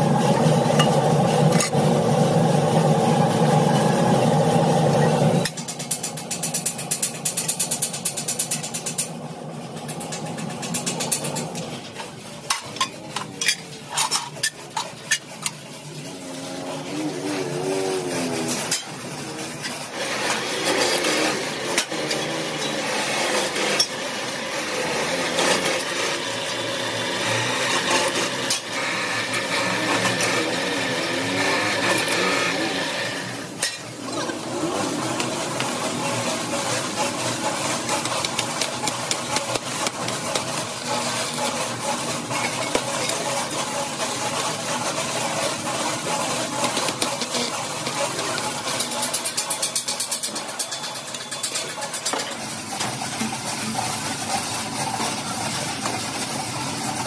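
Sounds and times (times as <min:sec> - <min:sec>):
shop machinery running: 0:00.0 - 0:57.0.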